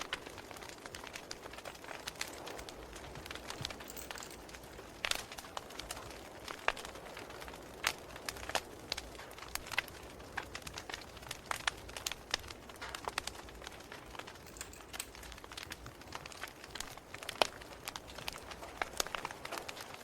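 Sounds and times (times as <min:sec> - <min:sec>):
faint steady hiss: 0:00.0 - 0:20.0
wood fire crackling: 0:00.0 - 0:20.0.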